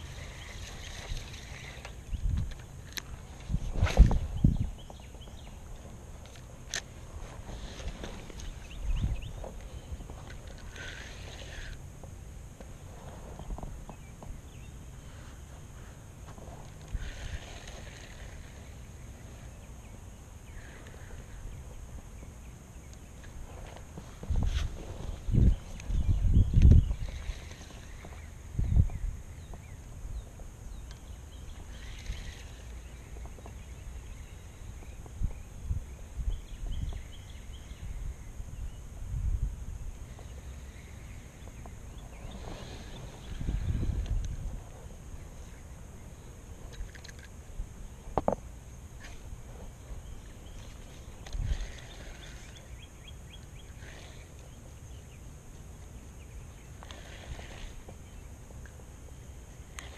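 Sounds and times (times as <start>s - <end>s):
birds chirping: 0.0s - 59.9s
low wind rumble: 0.0s - 59.9s.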